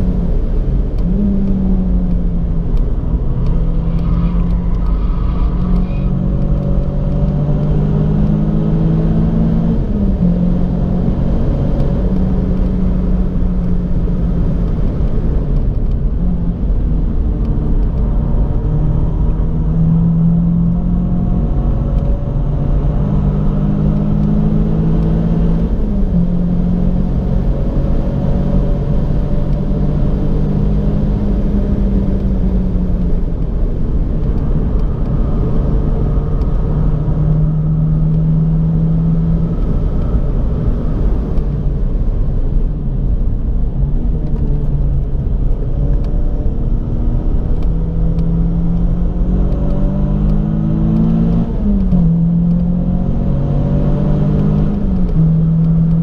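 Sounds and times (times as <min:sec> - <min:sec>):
car engine accelerating: 0:00.0 - 0:56.0
low road rumble: 0:00.0 - 0:56.0.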